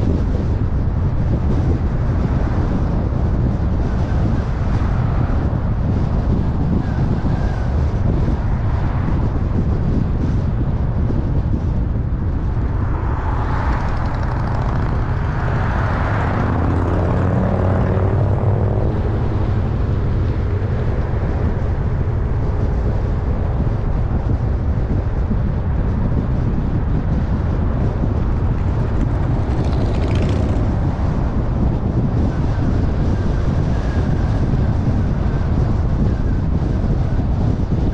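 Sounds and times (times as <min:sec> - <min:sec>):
car road noise rumble: 0:00.0 - 0:37.9.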